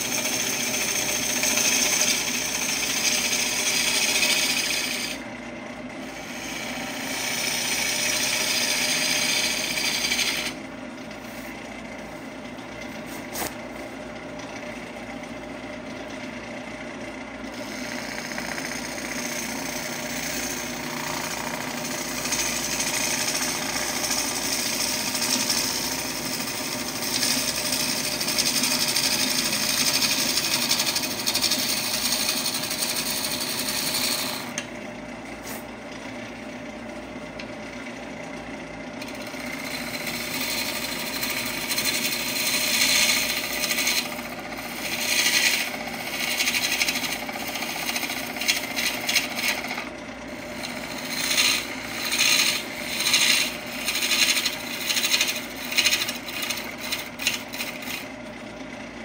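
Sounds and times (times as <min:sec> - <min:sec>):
gouge scraping spinning wood: 0:00.0 - 0:58.2
wood lathe motor hum: 0:00.0 - 0:59.0.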